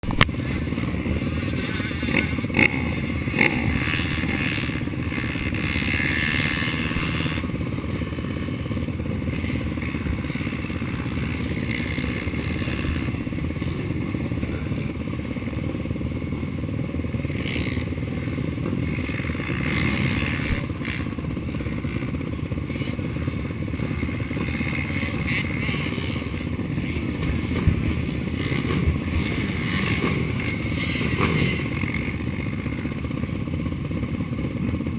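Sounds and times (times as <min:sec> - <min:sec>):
atv engine running hard: 0:00.0 - 0:34.9.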